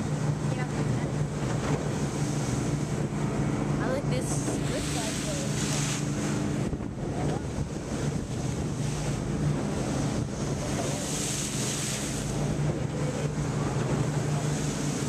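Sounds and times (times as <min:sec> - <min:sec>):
boat engine humming: 0:00.0 - 0:15.0
water rushing past hull: 0:00.0 - 0:15.0
wind buffeting microphone: 0:00.0 - 0:15.0.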